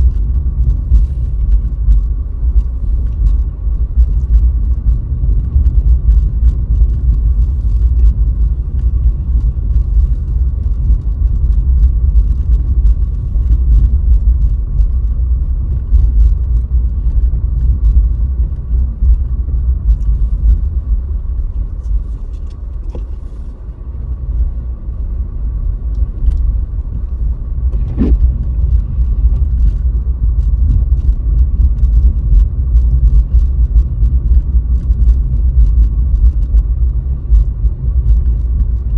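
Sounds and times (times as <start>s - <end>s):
tyres and engine rumble: 0.0s - 38.9s.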